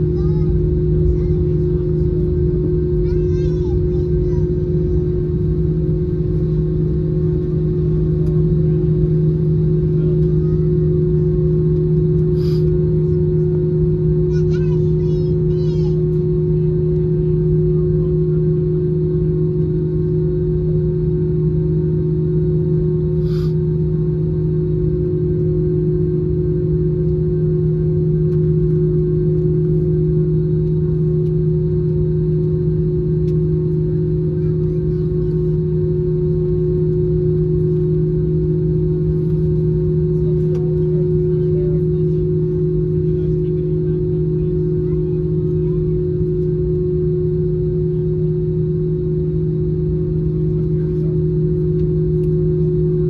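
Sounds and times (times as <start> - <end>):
airliner cabin engine hum: 0.0 - 53.0.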